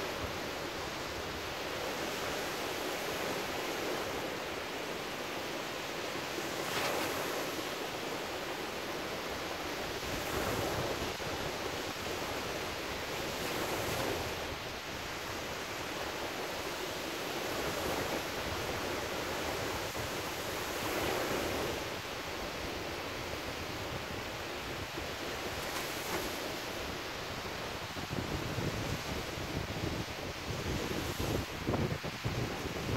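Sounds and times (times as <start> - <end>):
small waves breaking on sand: 0.0 - 32.9.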